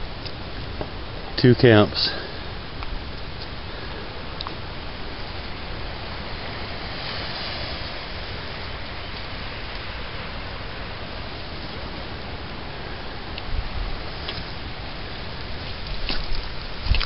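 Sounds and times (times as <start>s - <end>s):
ocean surf on rocks: 0.0s - 17.0s.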